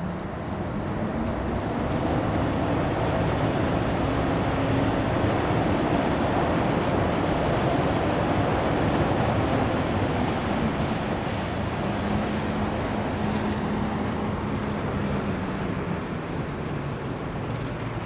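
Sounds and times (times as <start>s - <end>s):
ship engine rumble: 0.0s - 18.0s.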